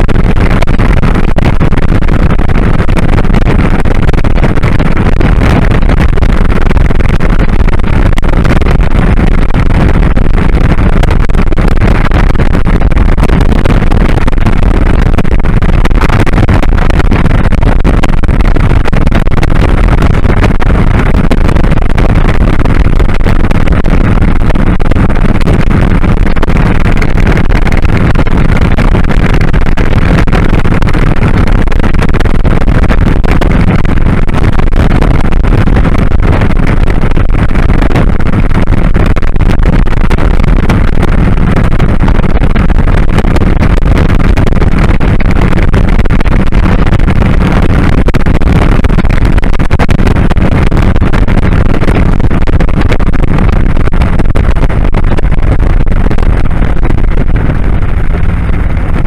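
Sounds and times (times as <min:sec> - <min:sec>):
wind rushing on microphone: 0:00.0 - 0:59.0.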